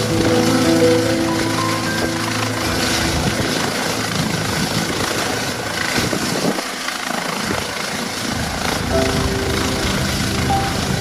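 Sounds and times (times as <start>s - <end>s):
helicopter rotors and turbine: 0.0s - 11.0s.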